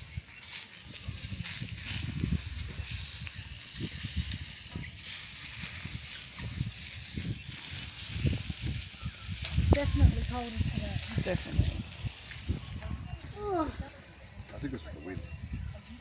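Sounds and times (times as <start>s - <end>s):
wind gusting over microphone: 0.0s - 16.0s.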